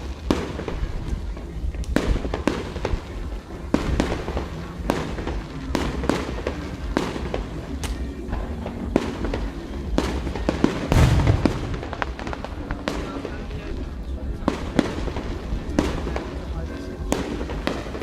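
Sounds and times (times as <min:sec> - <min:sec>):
low rumble: 0:00.0 - 0:15.8
fireworks bangs: 0:00.0 - 0:18.0.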